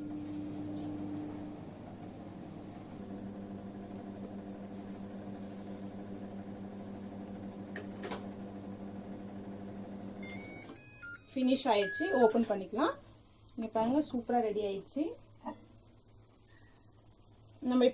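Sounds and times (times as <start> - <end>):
microwave oven humming: 0.0 - 17.9.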